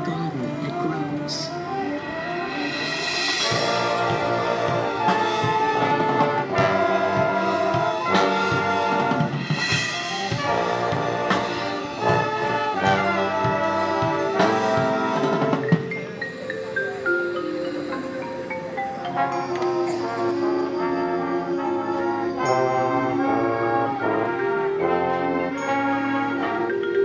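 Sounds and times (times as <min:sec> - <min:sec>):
marching band brass playing: 0:00.0 - 0:27.0.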